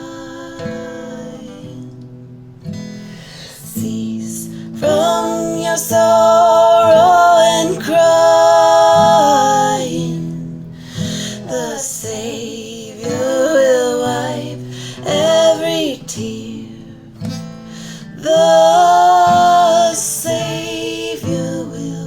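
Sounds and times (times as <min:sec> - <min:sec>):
women singing long notes: 0:00.0 - 0:02.0, 0:03.4 - 0:17.1, 0:18.0 - 0:22.0
acoustic guitar: 0:00.0 - 0:22.0.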